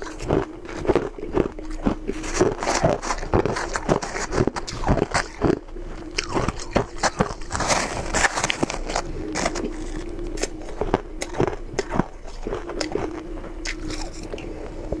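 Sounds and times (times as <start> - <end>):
chewing and crunching ice: 0.0 - 15.0
faint steady hum: 0.0 - 15.0.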